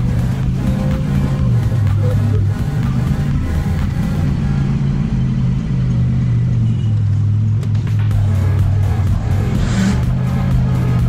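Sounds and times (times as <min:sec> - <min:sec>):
background music: 0:00.0 - 0:06.7, 0:07.6 - 0:11.0
vehicle engine drone: 0:00.0 - 0:11.0.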